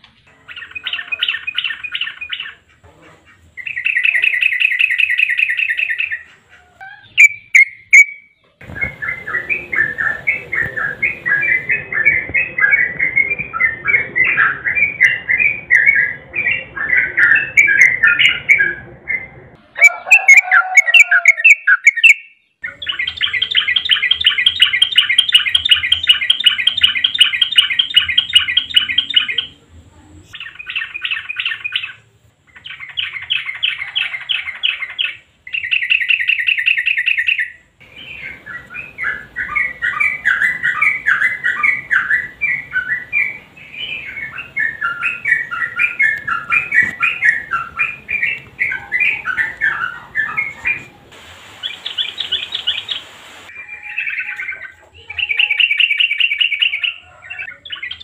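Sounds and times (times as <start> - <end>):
bird singing warbled phrases: 0.0 - 58.0
bird trilling: 0.3 - 18.8, 19.8 - 29.6, 30.3 - 51.0, 51.6 - 58.0.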